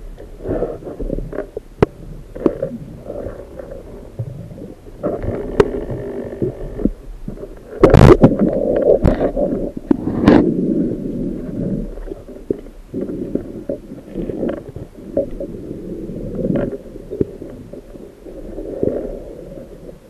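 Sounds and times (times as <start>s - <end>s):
muffled underwater rumbling: 0.0s - 20.0s.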